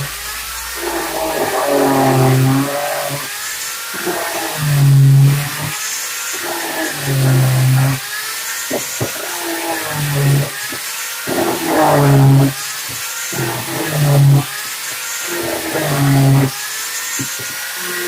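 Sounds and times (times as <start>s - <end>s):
angle grinder on wood: 0.0s - 18.0s.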